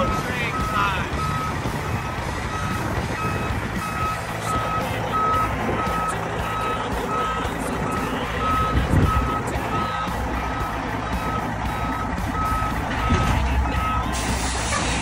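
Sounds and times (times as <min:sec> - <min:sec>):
backup alarm beeping: 0:00.0 - 0:14.1
diesel truck engine rumbling: 0:00.0 - 0:15.0.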